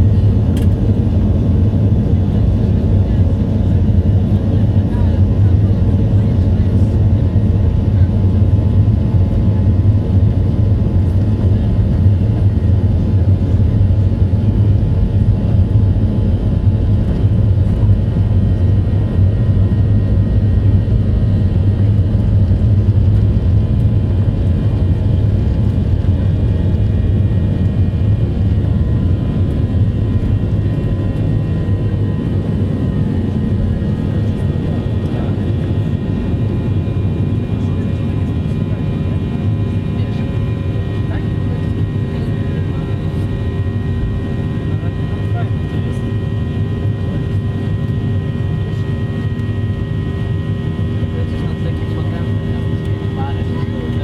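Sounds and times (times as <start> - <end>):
airplane engines rumbling: 0.0 - 54.0
faint engine whine: 0.0 - 54.0.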